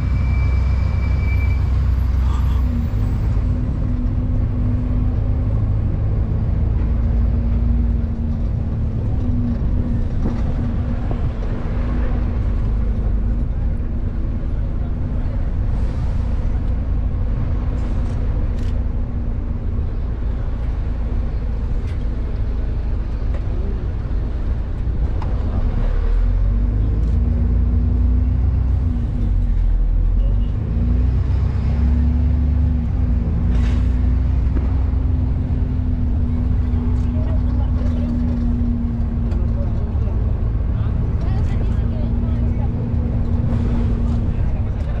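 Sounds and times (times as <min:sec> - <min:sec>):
bus engine low rumble: 0:00.0 - 0:45.0.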